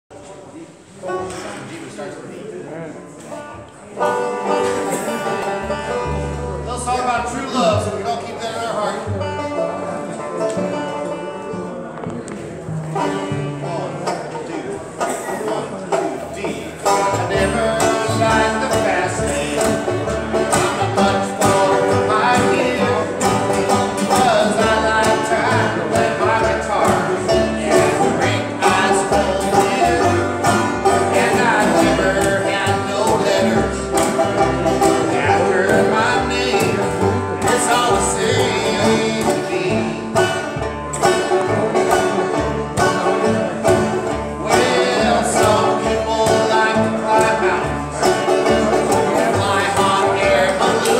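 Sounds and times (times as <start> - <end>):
banjo: 0.1 - 50.9
acoustic guitar: 0.2 - 50.9
plucked upright bass: 2.8 - 50.9.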